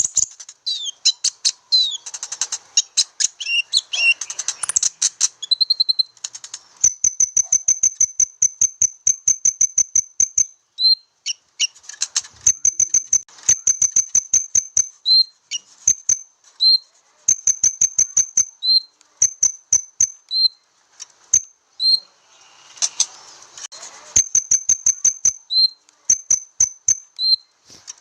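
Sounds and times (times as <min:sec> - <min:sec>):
lower bird chirps: 0:00.0 - 0:20.6, 0:21.3 - 0:23.4, 0:24.2 - 0:27.8
rapid high ticking bird call: 0:00.0 - 0:20.6, 0:24.1 - 0:27.5.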